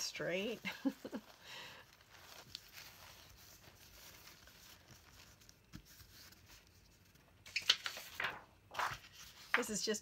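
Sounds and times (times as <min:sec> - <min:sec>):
paper crinkle: 0:00.0 - 0:09.8
paper napkin rustling: 0:00.0 - 0:09.8.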